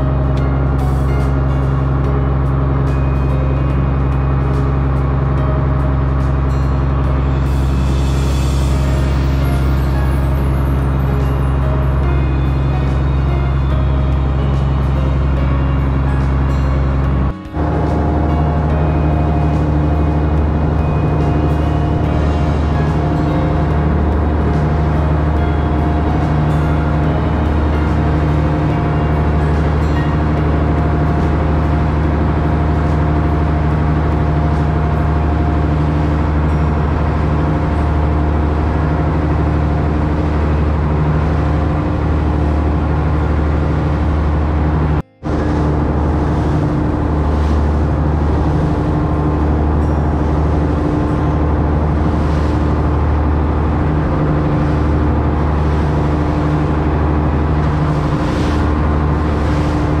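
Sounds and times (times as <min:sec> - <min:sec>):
boat engine droning: 0:00.0 - 1:00.0
water rushing from hull: 0:00.0 - 1:00.0.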